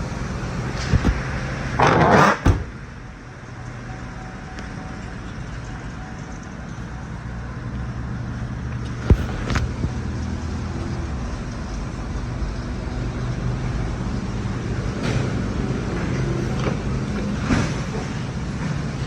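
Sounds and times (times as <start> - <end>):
low engine-like hum: 0.0 - 19.0.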